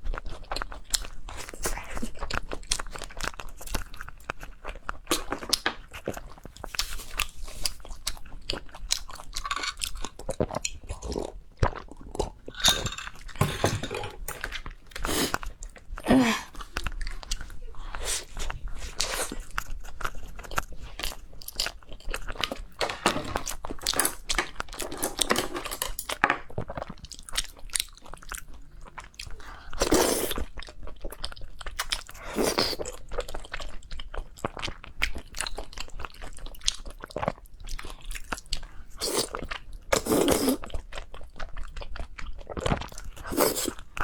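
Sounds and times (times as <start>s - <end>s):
person chewing crunchy food: 0.0s - 44.0s.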